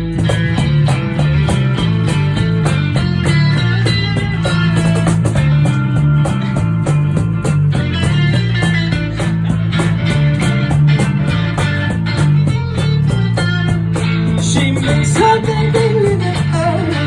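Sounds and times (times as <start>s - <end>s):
acoustic guitars strumming: 0.0s - 17.0s
bass line: 0.0s - 17.0s.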